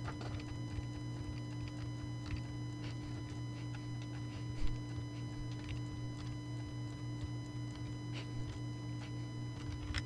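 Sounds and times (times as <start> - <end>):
electrical hum with high whine: 0.0 - 10.0.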